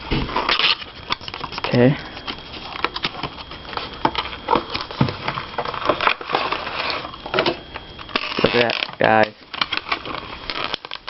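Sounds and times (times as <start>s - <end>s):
plastic packaging crackling: 0.0s - 11.0s.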